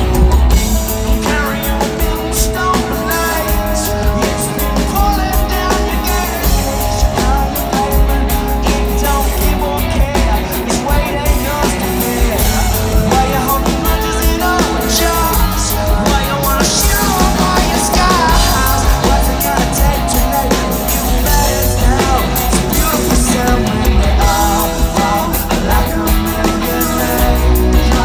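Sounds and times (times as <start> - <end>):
drum kit: 0.0 - 28.0
electric bass guitar: 0.0 - 28.0
lead singer: 0.0 - 28.0.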